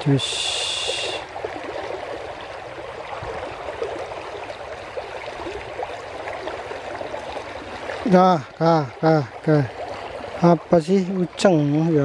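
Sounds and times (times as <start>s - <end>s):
water gurgling: 0.0s - 12.0s.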